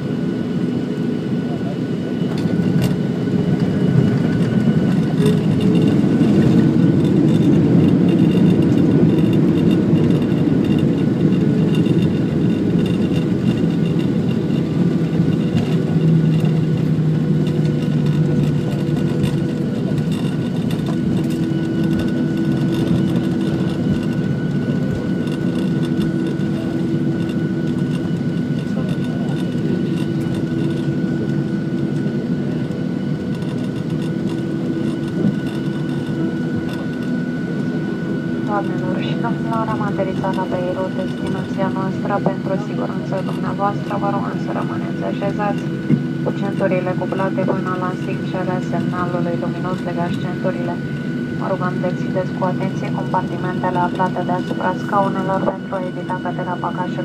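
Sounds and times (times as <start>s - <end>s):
jet engine rumble in cabin: 0.0s - 57.0s
steady high whine: 0.0s - 57.0s.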